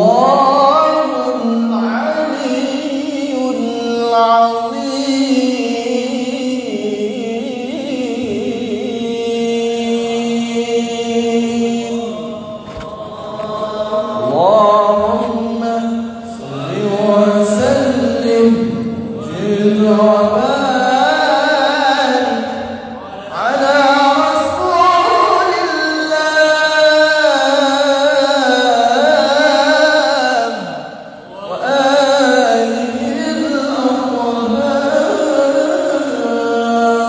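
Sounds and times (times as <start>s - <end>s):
man reciting melodically: 0.0s - 37.0s.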